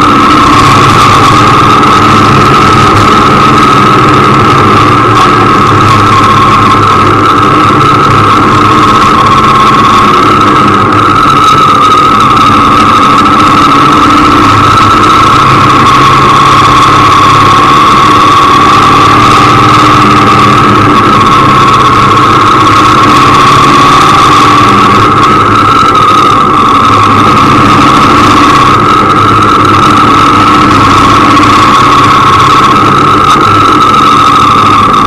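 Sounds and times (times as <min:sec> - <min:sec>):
high whine: 0:00.0 - 0:35.0
motorcycle engine running: 0:00.0 - 0:35.0.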